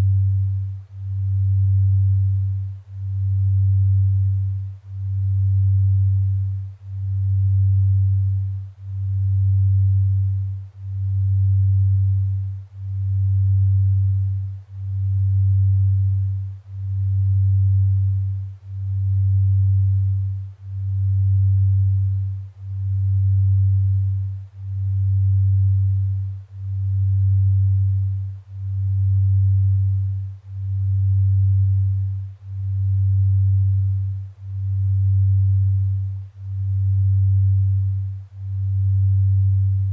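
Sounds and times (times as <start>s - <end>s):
faint hiss: 0.0s - 39.9s
low pulsing sine tone: 0.0s - 39.9s.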